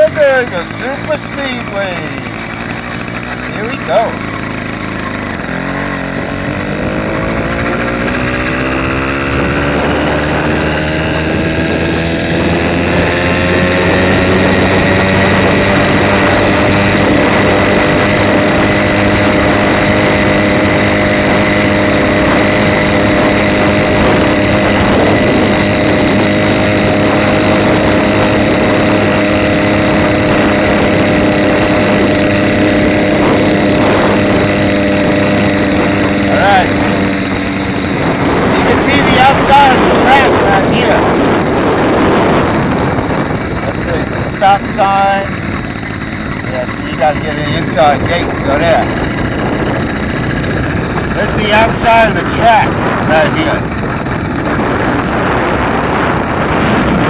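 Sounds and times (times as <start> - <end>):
motorized bicycle engine: 0.0 - 57.0.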